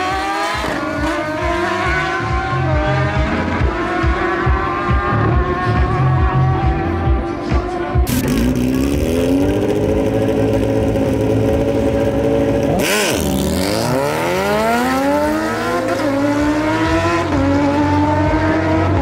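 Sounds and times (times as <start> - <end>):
drag-race car engine at full throttle: 0.0 - 19.0.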